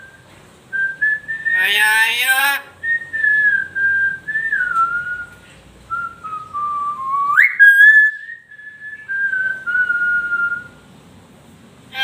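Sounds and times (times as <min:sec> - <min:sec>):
talking bird whistling: 0:00.0 - 0:10.9.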